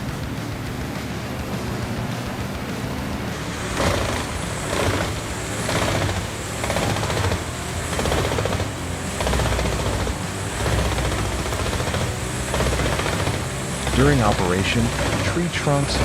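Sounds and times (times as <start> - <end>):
wood chipper chipping wood: 0.0 - 16.0.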